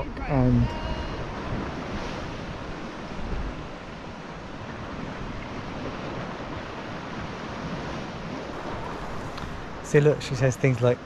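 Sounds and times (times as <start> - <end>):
water lapping around a kayak: 0.0 - 11.0
wind rumble on microphone: 0.0 - 11.0.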